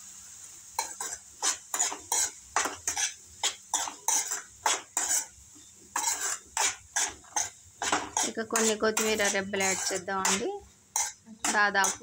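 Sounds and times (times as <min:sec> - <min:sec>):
metal spoon scraping a pan: 0:00.8 - 0:12.0.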